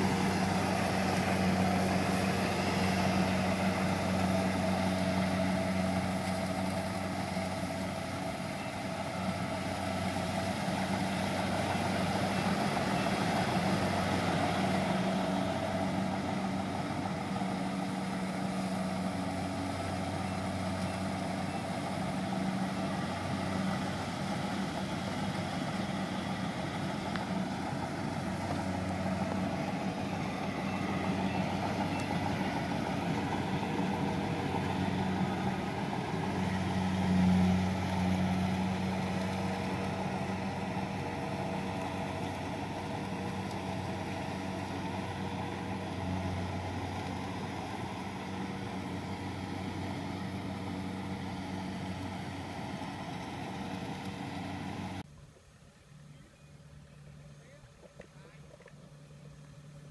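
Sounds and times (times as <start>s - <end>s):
combine harvester engine droning: 0.0s - 59.9s.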